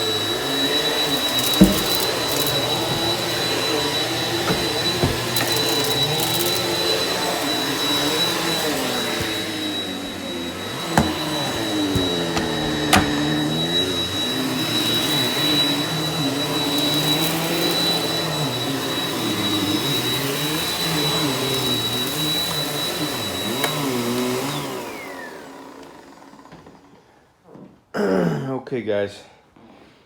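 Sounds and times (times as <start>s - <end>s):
vacuum cleaner running on carpet: 0.0s - 26.6s.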